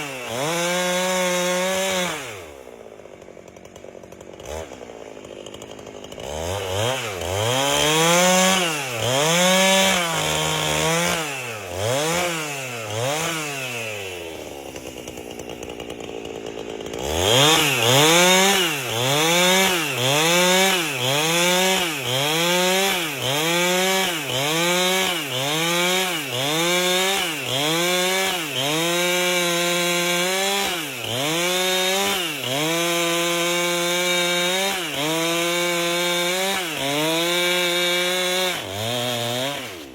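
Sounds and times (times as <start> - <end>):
chainsaw revving cutting log: 0.0 - 39.9.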